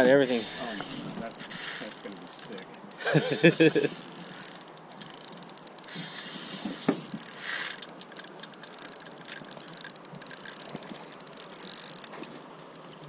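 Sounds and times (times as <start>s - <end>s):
fishing reel clicking: 0.3s - 13.0s.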